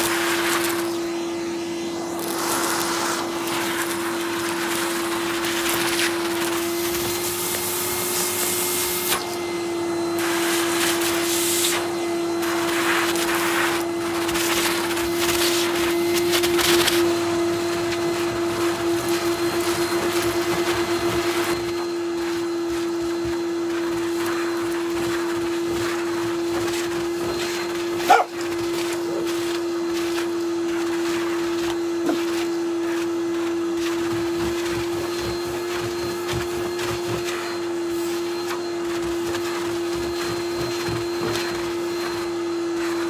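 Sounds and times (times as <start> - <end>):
vacuum cleaner motor whine: 0.0 - 43.0
vacuum sucking crumbs from rug: 0.0 - 43.0.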